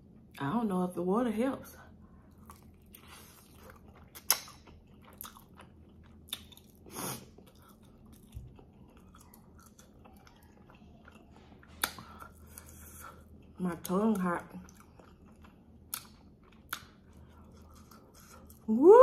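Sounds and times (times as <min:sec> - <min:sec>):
wet chewing: 0:02.2 - 0:18.7.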